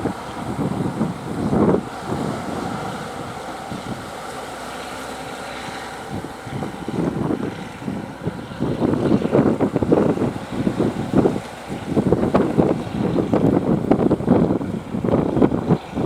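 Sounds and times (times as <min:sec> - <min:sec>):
boat engine running: 0:00.0 - 0:16.0
sea noise: 0:00.0 - 0:16.0
wind buffeting microphone: 0:00.0 - 0:16.0.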